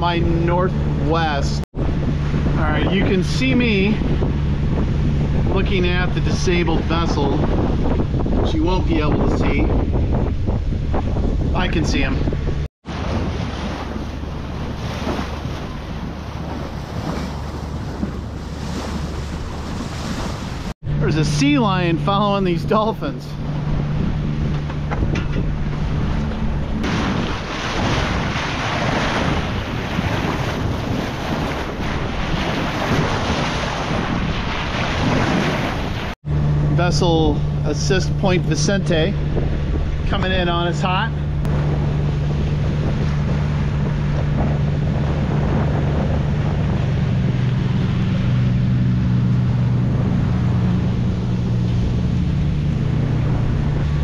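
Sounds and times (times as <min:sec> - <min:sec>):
steady low hum: 0:00.0 - 0:34.3, 0:36.0 - 0:54.0
boat engine droning: 0:00.0 - 0:54.0
sea wash: 0:00.0 - 0:54.0
water rushing along hull: 0:00.0 - 0:54.0
wind buffeting microphone: 0:00.0 - 0:54.0.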